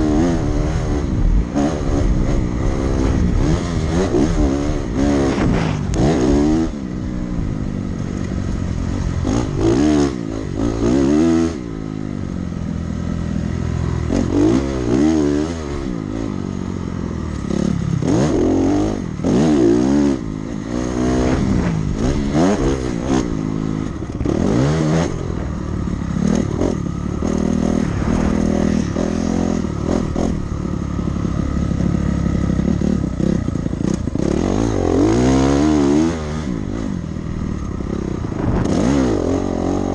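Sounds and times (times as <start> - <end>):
dirt bike engine revving: 0.0 - 12.1, 13.4 - 39.9.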